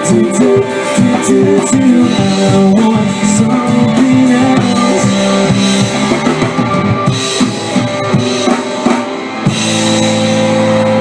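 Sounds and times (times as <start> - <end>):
rock song with drums and guitar: 0.0 - 11.0.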